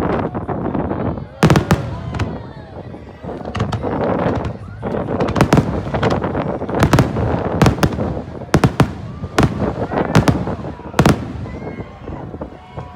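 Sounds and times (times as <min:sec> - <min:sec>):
fireworks bangs: 0:01.2 - 0:12.9
fireworks crackling: 0:01.2 - 0:12.9.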